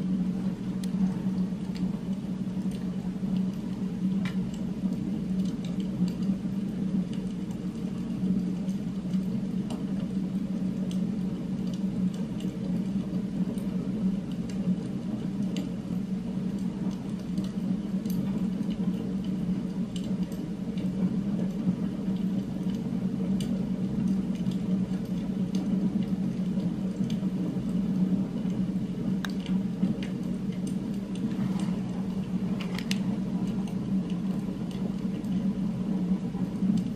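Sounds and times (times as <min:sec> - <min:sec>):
low background hum: 0:00.0 - 0:36.9.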